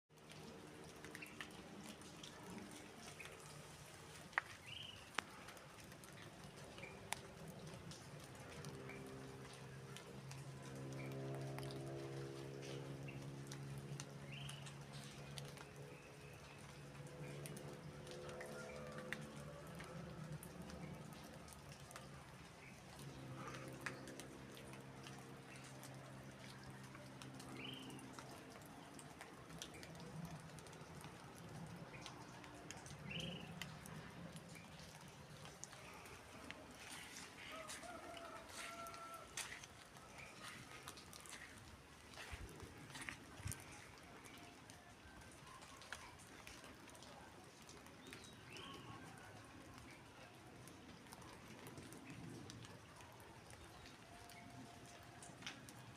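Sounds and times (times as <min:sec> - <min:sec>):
light rain hiss: 0:00.1 - 0:55.9
drips on hard surface: 0:00.2 - 0:55.9.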